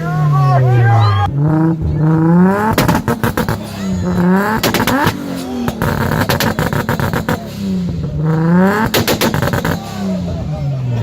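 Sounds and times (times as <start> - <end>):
car engine revving: 0.0 - 11.0
exhaust crackling pops: 1.3 - 10.4.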